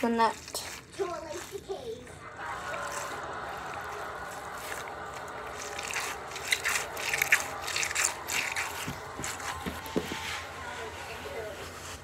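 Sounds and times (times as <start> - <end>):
hands rubbing stress ball: 0.0 - 12.0
scratchy squishing strokes: 0.0 - 12.0.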